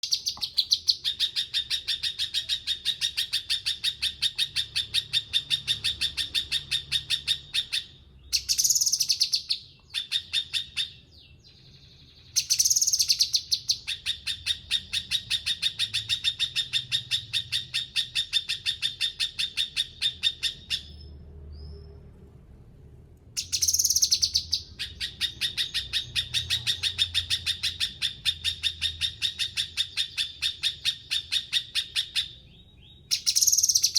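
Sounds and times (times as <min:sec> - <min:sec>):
songbird rapid high chirps: 0:00.0 - 0:22.0, 0:23.4 - 0:33.9.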